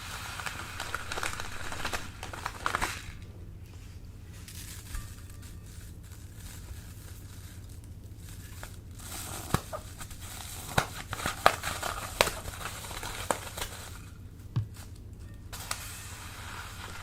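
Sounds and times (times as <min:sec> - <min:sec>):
plastic bags crinkling: 0:00.0 - 0:17.0
sharp crackles and clicks: 0:00.0 - 0:17.0.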